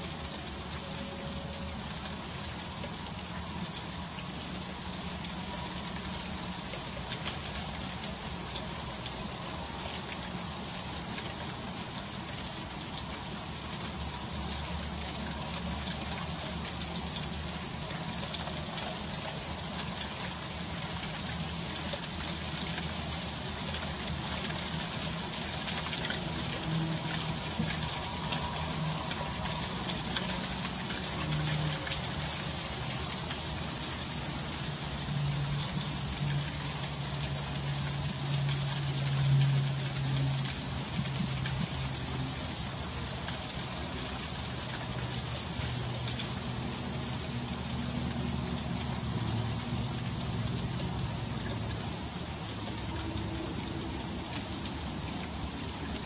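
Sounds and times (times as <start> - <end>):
freezing rain ticking on ice: 0.0 - 56.0.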